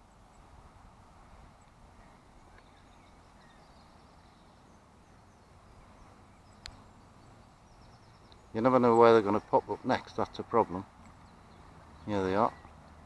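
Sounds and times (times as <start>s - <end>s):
faint wind rumble: 0.0s - 13.0s
faint bird chirps: 1.5s - 13.0s.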